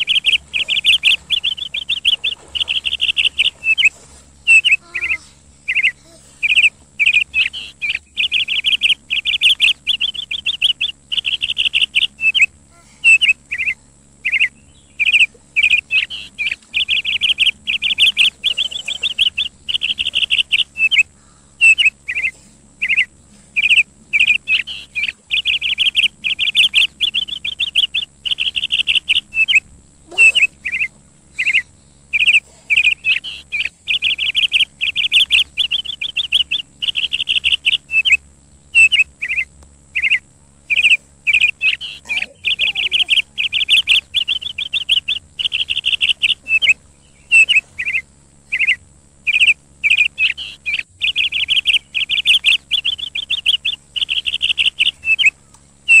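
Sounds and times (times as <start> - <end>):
bird chirping in trilled bursts: 0.0 - 56.0.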